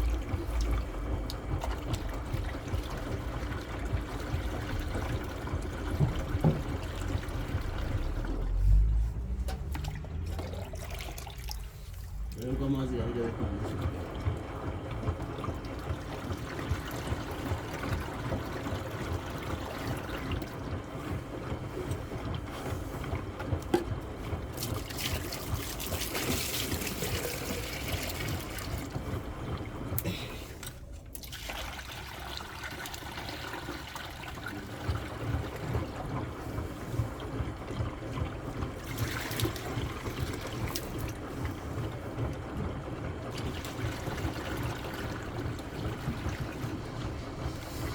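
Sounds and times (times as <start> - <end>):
washing machine low rumble: 0.0 - 47.9
water trickling and splashing: 0.0 - 47.9.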